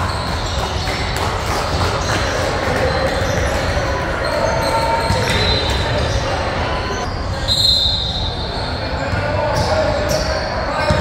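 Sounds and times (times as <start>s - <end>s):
indistinct voices in echoing hall: 0.0s - 11.0s.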